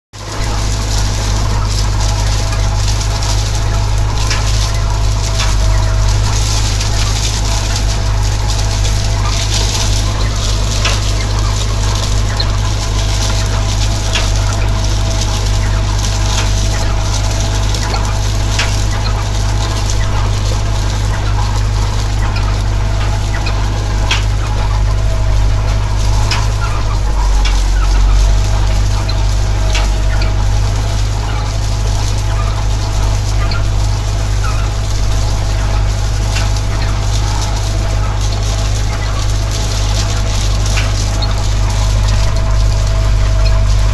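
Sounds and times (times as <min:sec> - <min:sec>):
tractor engine running: 0:00.1 - 0:43.9
mechanical whine: 0:00.2 - 0:43.9
rake clicking and rattling: 0:00.2 - 0:43.9.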